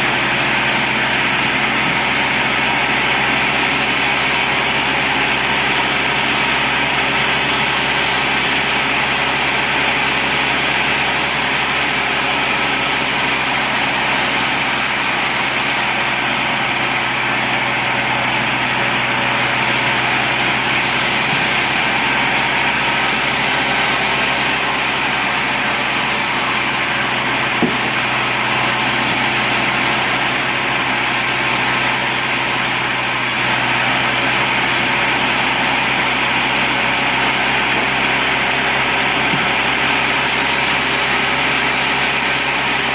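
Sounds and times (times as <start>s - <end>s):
band saw running: 0.0s - 42.9s.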